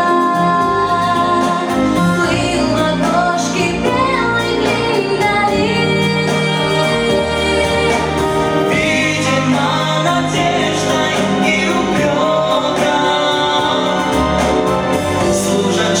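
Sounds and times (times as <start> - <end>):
female voices singing: 0.0 - 16.0
instrumental accompaniment with bass: 0.0 - 16.0.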